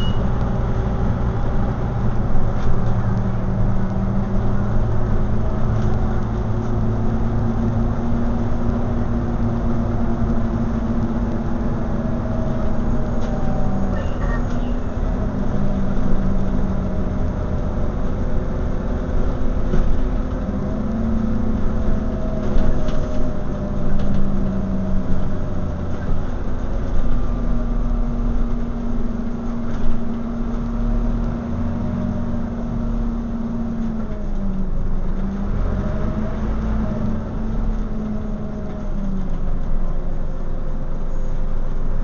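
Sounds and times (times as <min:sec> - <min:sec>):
bus engine drone: 0:00.0 - 0:42.0.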